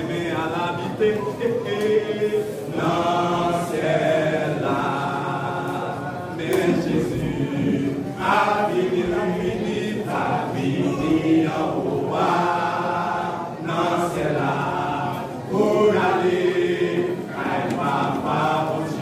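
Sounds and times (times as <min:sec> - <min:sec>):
men singing gospel together: 0:00.0 - 0:19.0.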